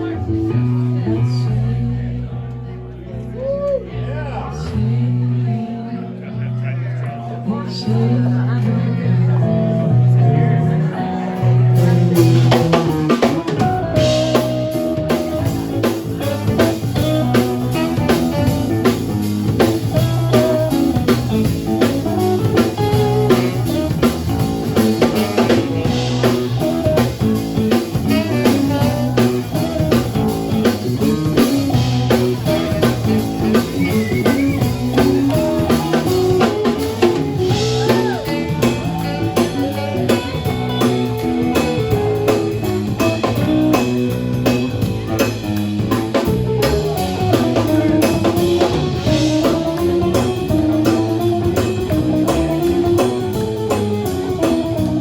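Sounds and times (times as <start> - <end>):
live band playing instrumental: 0.0 - 2.3, 4.5 - 55.0
drum kit with rimshots: 10.7 - 55.0.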